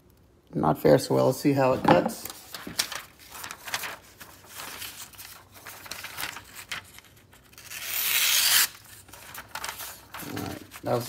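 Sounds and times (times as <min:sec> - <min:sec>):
paper rustling: 0:01.6 - 0:11.0.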